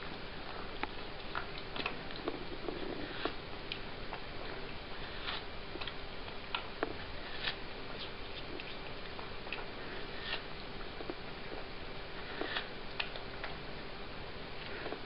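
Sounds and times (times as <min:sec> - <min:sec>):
cat chewing and licking: 0:00.0 - 0:15.0
faint steady hum: 0:00.0 - 0:15.0.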